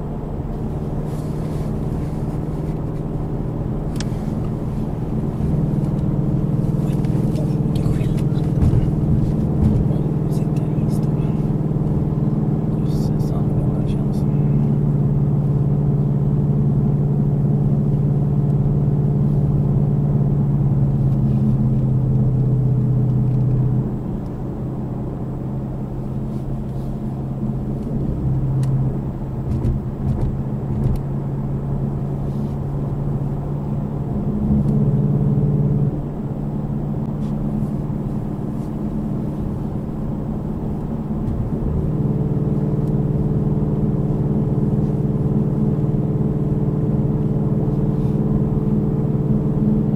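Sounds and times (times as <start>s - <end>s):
car engine hum: 0.0s - 49.9s
road noise: 0.0s - 49.9s.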